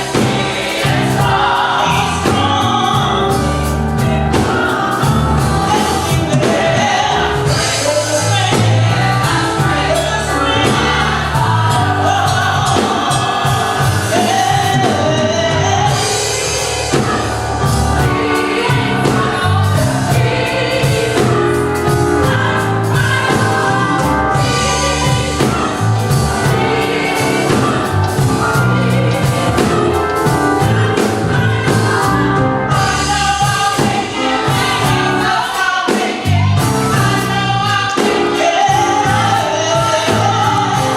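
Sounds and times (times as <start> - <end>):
bass and drum beat: 0.0 - 40.9
gospel choir singing: 0.0 - 40.9.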